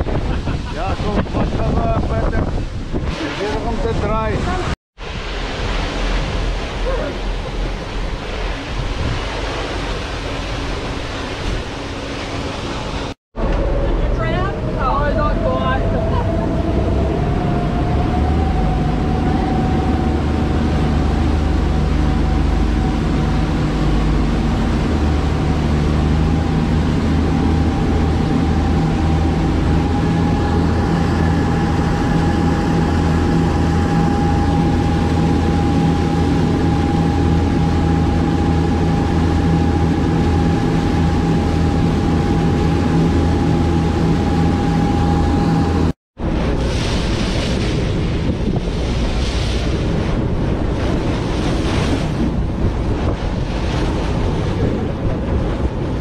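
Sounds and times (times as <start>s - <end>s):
boat engine hum: 0.0s - 56.0s
churning wake water: 0.0s - 56.0s
engine whine: 3.1s - 56.0s.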